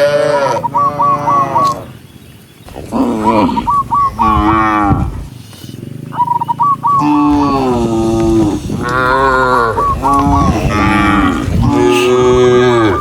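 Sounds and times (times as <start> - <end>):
cattle mooing: 0.0 - 1.9, 2.8 - 5.3, 6.0 - 13.0.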